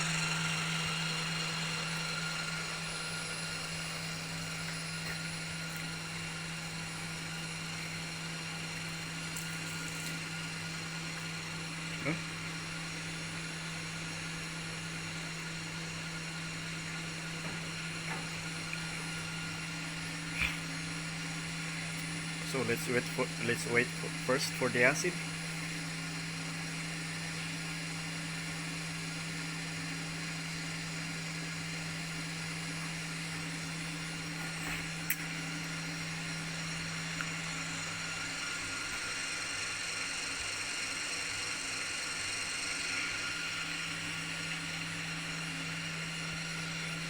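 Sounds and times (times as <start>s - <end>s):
pump humming: 0.0s - 47.0s.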